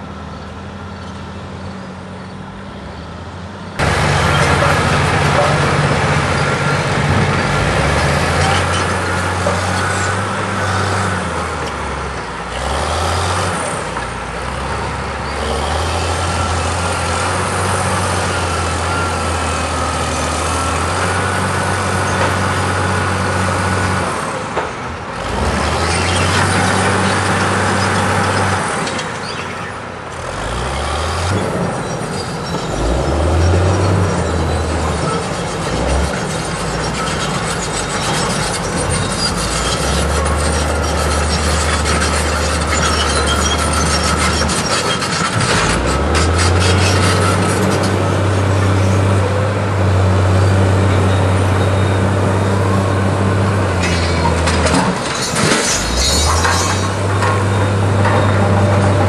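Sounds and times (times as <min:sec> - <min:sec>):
diesel engine working under load: 0:00.0 - 0:59.0.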